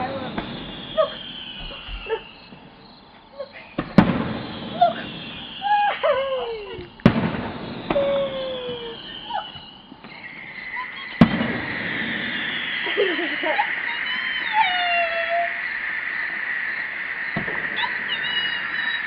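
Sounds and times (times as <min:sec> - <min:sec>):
fireworks pops: 0:00.0 - 0:02.8, 0:03.5 - 0:19.0
falling whistling tones: 0:00.0 - 0:19.0
fireworks bangs: 0:00.0 - 0:19.0.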